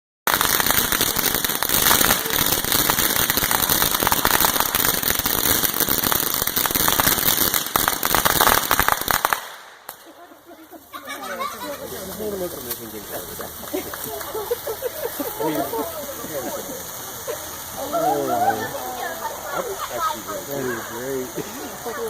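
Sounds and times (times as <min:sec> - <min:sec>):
firework crackling: 0:00.3 - 0:22.0.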